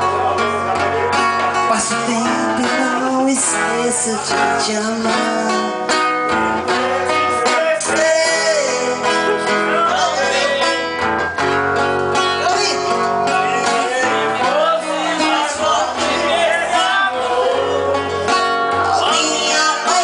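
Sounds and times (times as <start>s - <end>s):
person singing: 0.0s - 11.0s, 12.2s - 20.0s
country love song: 0.0s - 20.0s
strummed acoustic guitar: 0.0s - 20.0s.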